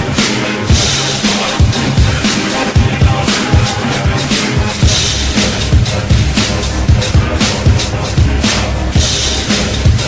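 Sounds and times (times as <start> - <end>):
hip-hop break music: 0.0 - 10.0.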